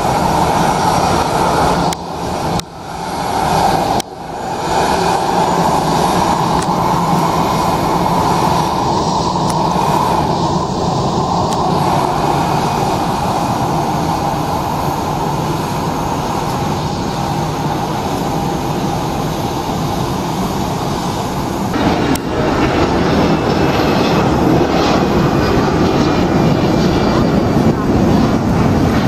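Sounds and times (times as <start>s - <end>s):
airplane climbing engine noise: 0.0s - 29.0s
jet engine rumble with whine: 0.0s - 29.0s.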